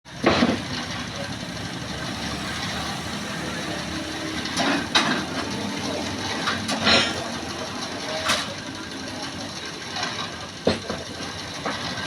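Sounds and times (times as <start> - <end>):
rebar bending machine running: 0.1 - 12.0.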